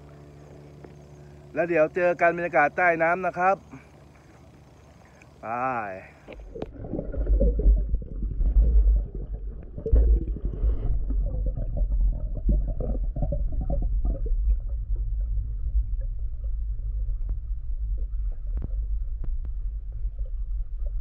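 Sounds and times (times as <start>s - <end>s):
muffled underwater water rumble: 0.0s - 21.0s.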